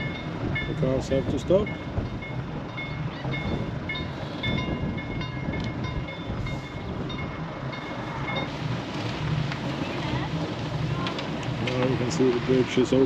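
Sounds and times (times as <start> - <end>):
bridge warning signal ringing: 0.0 - 11.8
low steady hum: 0.0 - 13.0.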